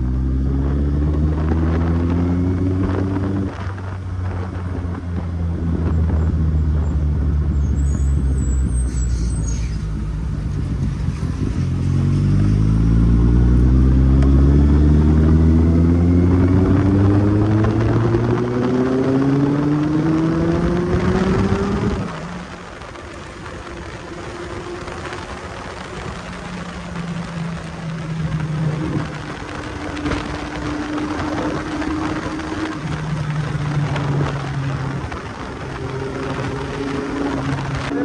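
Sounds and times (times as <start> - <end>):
motorcycle engine accelerating: 0.0 - 38.0
road and wind noise: 0.0 - 38.0.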